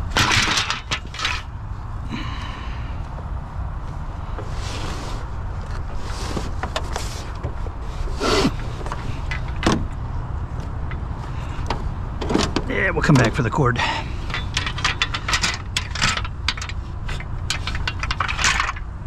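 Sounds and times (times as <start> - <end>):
junk rustling and scraping: 0.0 - 19.0
steady low rumble: 0.0 - 19.0.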